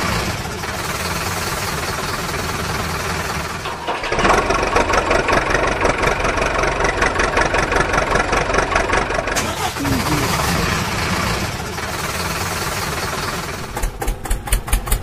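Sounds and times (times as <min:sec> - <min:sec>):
engine running steadily: 0:00.0 - 0:15.0
pulsing engine: 0:00.0 - 0:15.0.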